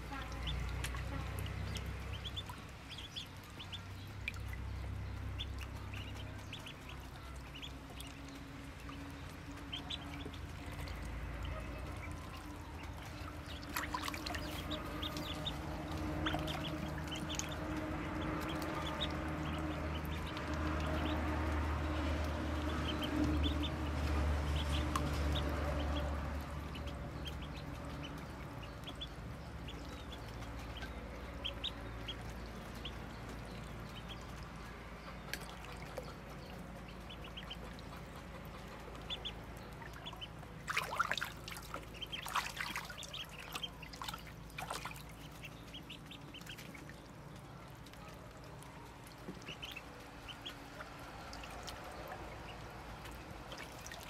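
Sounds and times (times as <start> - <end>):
ducklings peeping: 0.0 - 54.0
water splashes: 0.0 - 54.0.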